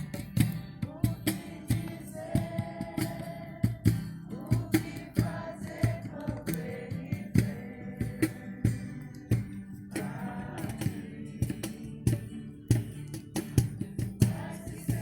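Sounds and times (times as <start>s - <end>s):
sharp percussion beats: 0.0s - 15.0s
strummed acoustic guitar: 0.0s - 15.0s
people singing worship song: 0.6s - 13.2s, 13.9s - 15.0s.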